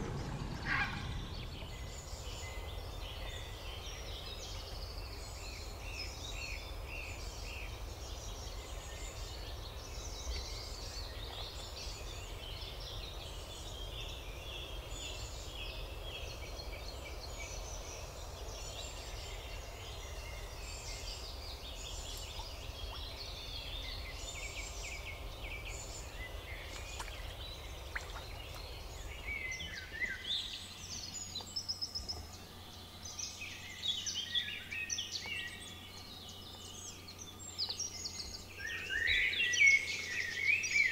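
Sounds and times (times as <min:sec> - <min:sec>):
low steady rumble: 0:00.0 - 0:40.9
songbirds chirping and trilling: 0:00.0 - 0:40.9.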